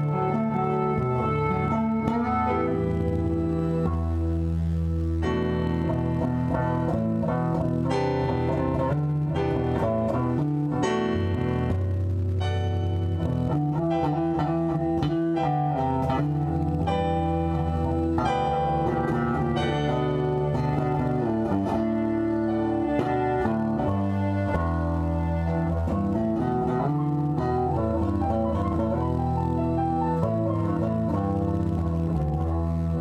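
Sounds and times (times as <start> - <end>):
two guitars playing: 0.0 - 33.0.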